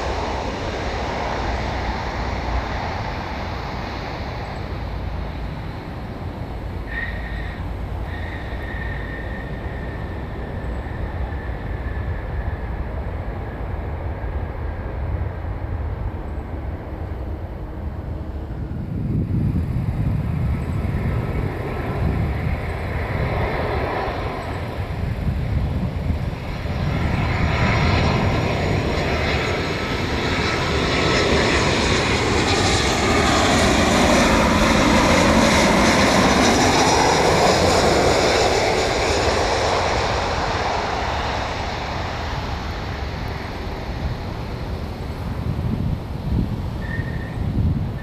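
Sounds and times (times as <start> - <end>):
jet engines rumbling and whining: 0.0 - 48.0.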